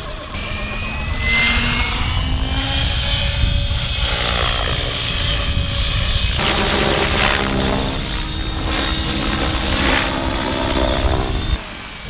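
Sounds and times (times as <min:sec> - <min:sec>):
model helicopter whine: 0:00.0 - 0:12.0
low rumble: 0:00.4 - 0:11.6.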